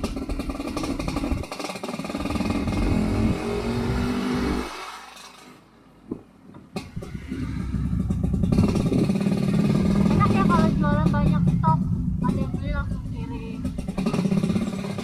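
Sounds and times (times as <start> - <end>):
two-stroke motorcycle engine revving: 0.0 - 5.0, 6.8 - 15.0.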